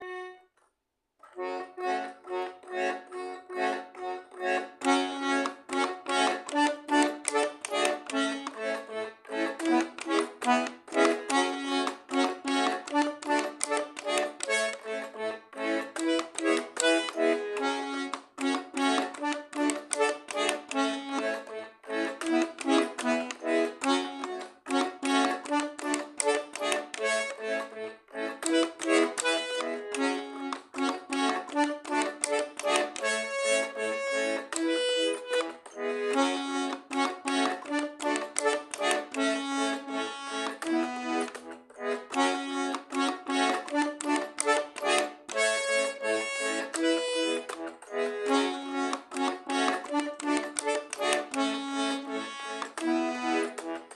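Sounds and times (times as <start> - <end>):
button accordion playing a tune: 0.0 - 53.9.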